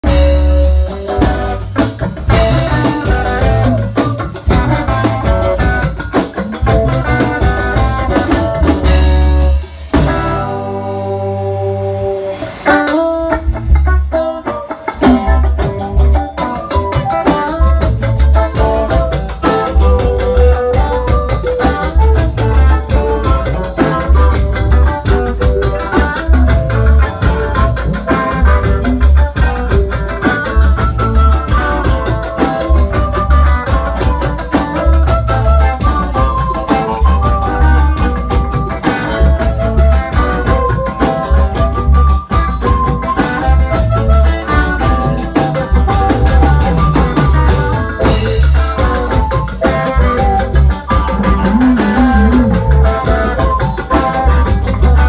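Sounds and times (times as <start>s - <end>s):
drum kit: 0.0s - 55.0s
electric guitar: 0.0s - 55.0s
live band playing: 0.0s - 55.0s.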